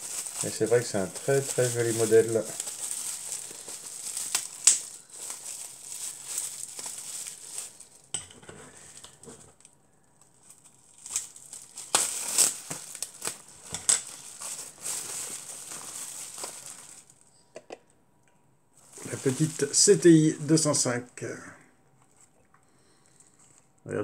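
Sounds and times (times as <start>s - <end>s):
plastic wrapping crinkling: 0.0s - 17.3s, 18.8s - 21.1s.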